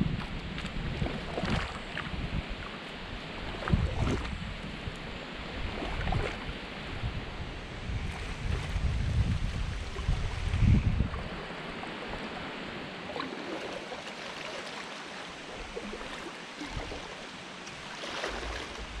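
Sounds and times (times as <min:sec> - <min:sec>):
kayak paddle splashing: 0:00.0 - 0:07.0, 0:08.0 - 0:19.0
wind rumble on microphone: 0:00.0 - 0:14.0, 0:15.4 - 0:19.0
water washing along hull: 0:00.0 - 0:19.0.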